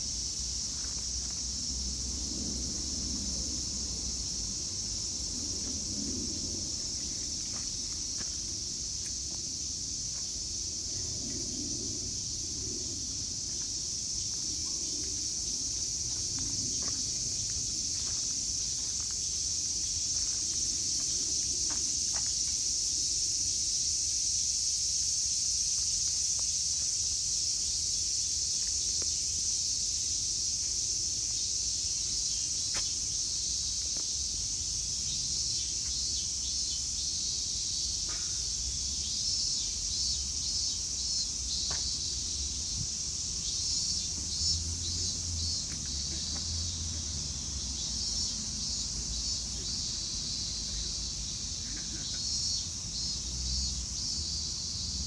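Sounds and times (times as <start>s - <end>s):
high-pitched insect chorus: 0.0s - 55.0s
rapidly pulsing insect call: 0.0s - 55.0s.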